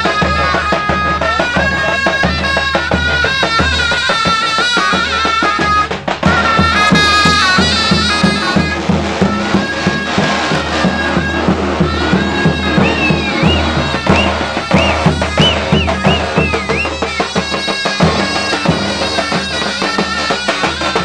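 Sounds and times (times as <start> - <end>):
big drum beat: 0.0 - 21.0
shrill zurna melody: 0.0 - 21.0.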